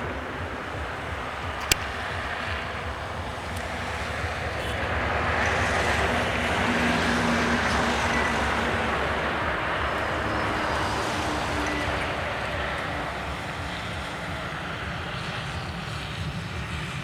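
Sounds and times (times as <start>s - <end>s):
train rumbling on track: 2.1s - 17.0s.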